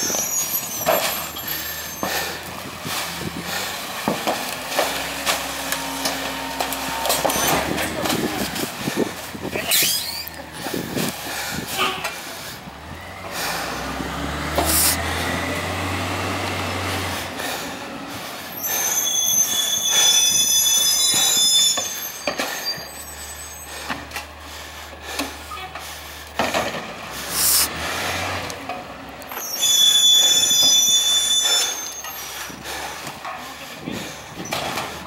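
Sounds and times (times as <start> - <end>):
brakes squealing loudly: 0.0 - 35.0
truck engine drone: 0.0 - 35.0.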